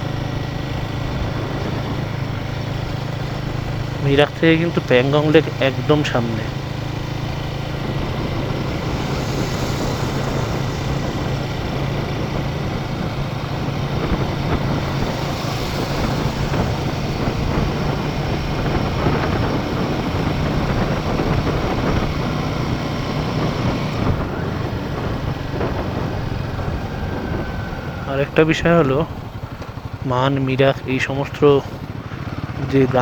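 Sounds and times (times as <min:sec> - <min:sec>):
wind rushing on microphone: 0:00.0 - 0:30.9
motorcycle engine humming: 0:00.0 - 0:33.0.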